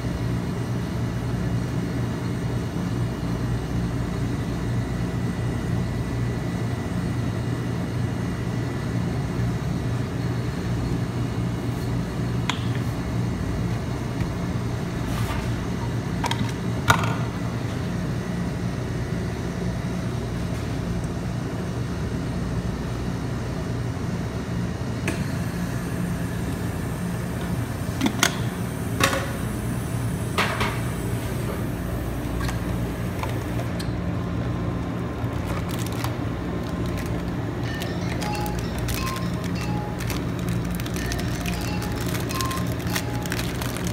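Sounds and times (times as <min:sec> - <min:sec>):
electric hum of refrigeration machine: 0:00.0 - 0:43.9.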